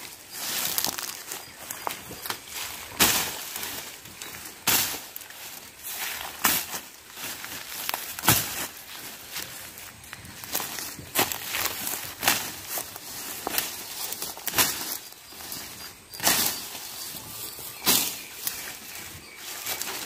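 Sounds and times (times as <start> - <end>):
sickle swishing through weeds: 0.0 - 20.0
stems and dry leaves crackling: 0.0 - 20.0.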